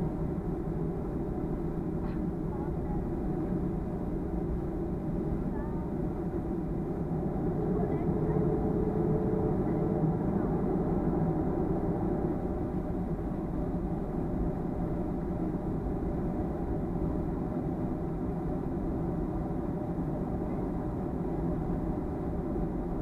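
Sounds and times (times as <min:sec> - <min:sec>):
faint steady tones: 0:00.0 - 0:23.0
jet engine rumble: 0:00.0 - 0:23.0.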